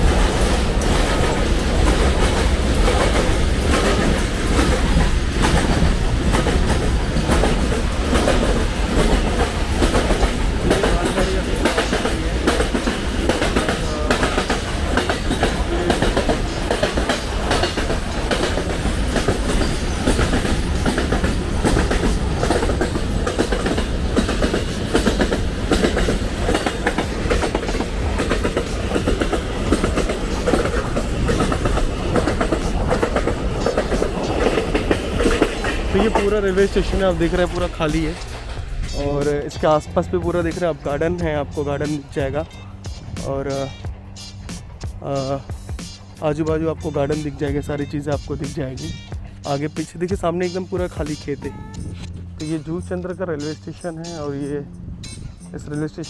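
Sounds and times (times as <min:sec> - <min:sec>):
freight train rumbling past: 0:00.0 - 0:56.0
train wheels clicking on rails: 0:00.0 - 0:56.0.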